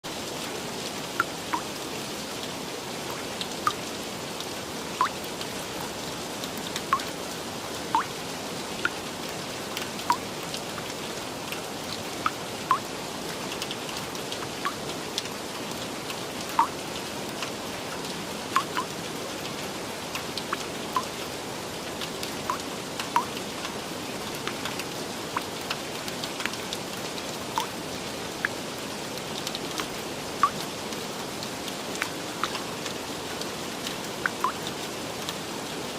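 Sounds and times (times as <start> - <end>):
steady rain falling: 0.0 - 35.9
heavy raindrops plinking: 1.0 - 35.4.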